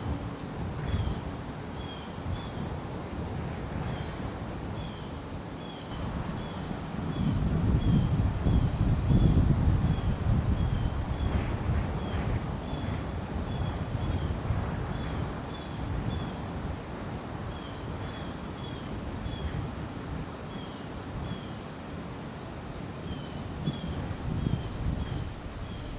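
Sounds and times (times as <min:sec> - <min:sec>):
wind buffeting microphone: 0:00.0 - 0:21.4, 0:23.0 - 0:25.9.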